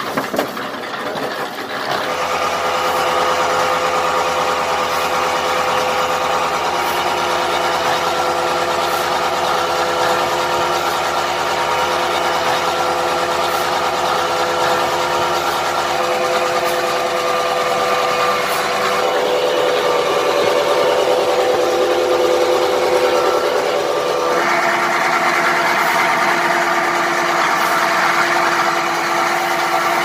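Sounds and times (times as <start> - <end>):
concrete mixer running: 0.0 - 30.0.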